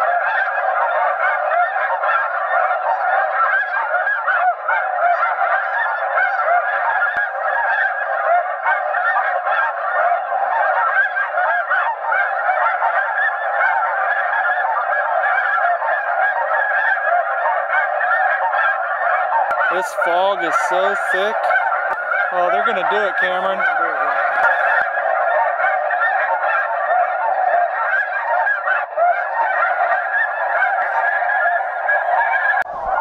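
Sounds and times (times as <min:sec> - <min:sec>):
chorus of goose calls: 0:00.0 - 0:33.0.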